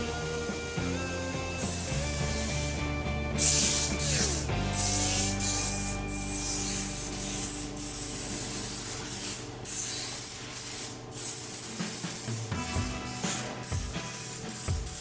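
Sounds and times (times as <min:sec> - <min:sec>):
paint spray gun hissing: 0:00.0 - 0:15.0.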